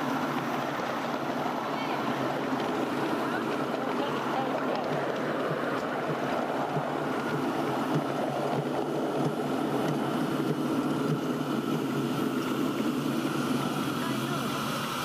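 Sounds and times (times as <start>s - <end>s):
miniature train rumbling on track: 0.0s - 15.0s.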